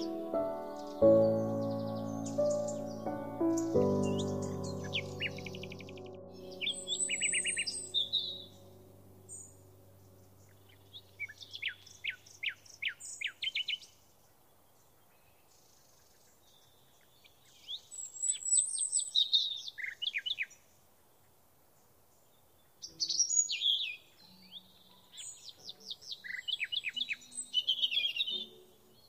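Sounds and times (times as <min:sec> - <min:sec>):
songbird singing high chirps: 0:00.0 - 0:14.0, 0:14.7 - 0:20.7, 0:22.2 - 0:29.0.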